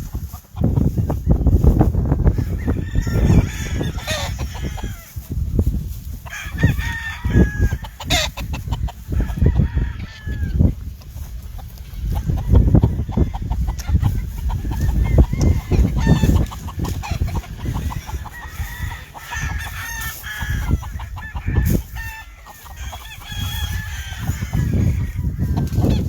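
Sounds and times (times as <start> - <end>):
hens clucking: 0.0 - 26.0
roosters crowing: 0.0 - 26.0.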